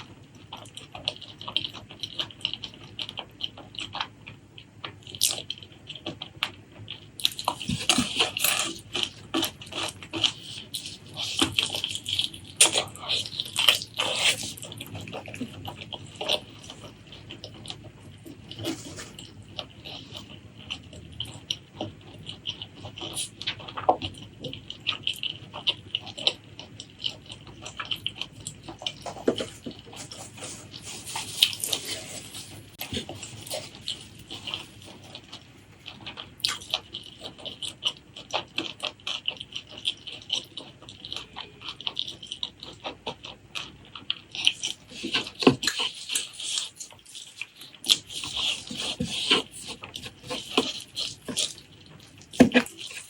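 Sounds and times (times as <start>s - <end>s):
wet chewing: 0.0s - 53.0s.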